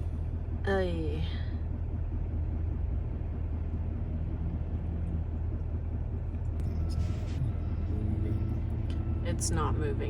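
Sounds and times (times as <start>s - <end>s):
heavy diesel engine droning: 0.0s - 10.0s.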